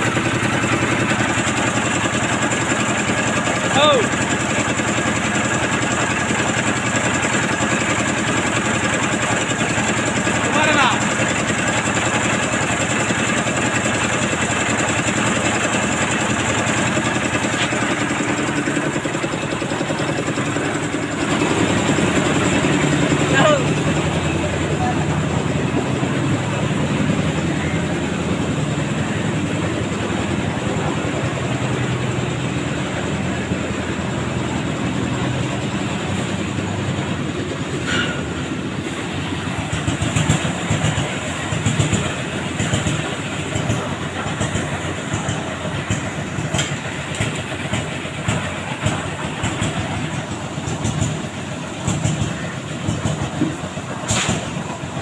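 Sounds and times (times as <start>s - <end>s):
concrete mixer engine drone: 0.0s - 55.0s.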